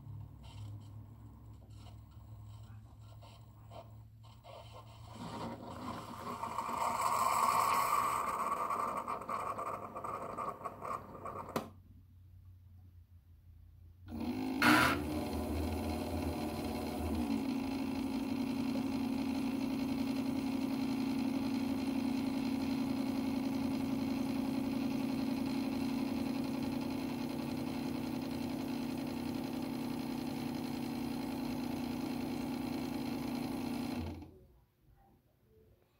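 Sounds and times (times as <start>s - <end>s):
coffee maker pump humming: 0.0s - 11.7s, 14.1s - 34.3s.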